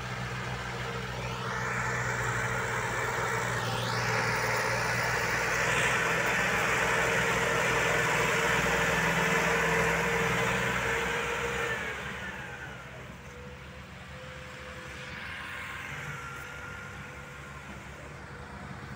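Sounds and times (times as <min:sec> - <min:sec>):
tractor diesel engine labouring: 0:00.0 - 0:18.9.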